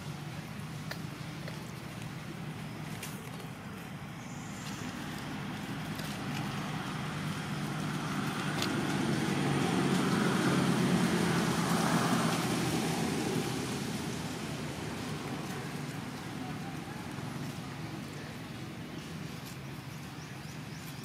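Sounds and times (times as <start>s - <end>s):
passing vehicle engine hum: 0.0s - 21.0s.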